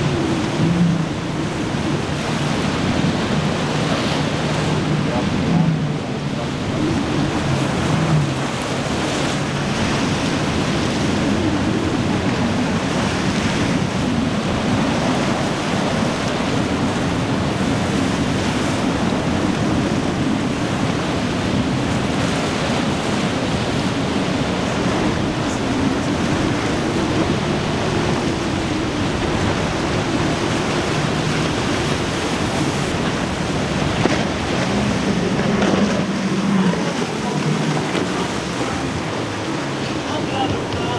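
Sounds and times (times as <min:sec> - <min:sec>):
outboard engines droning: 0:00.0 - 0:40.9
surf and wake rushing: 0:00.0 - 0:40.9
wind buffeting microphone: 0:00.0 - 0:40.9.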